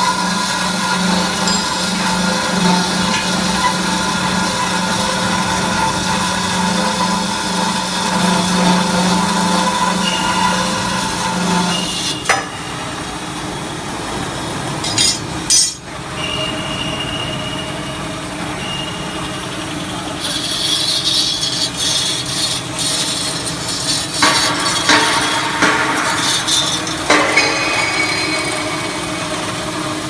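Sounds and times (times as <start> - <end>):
band saw machine running: 0.0 - 30.0.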